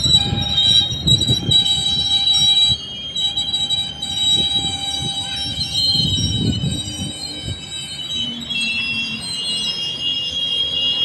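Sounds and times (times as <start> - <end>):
train coaches rumbling: 0.0 - 11.0
wheels and brakes squealing: 0.0 - 11.0.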